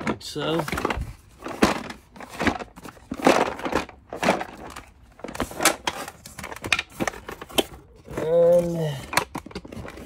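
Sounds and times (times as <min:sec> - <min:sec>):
plastic toy parts clacking: 0:00.0 - 0:10.0.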